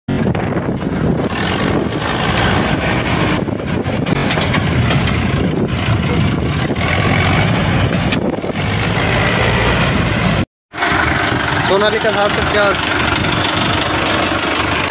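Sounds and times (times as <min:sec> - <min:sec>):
tractor diesel engine running: 0:00.1 - 0:14.9.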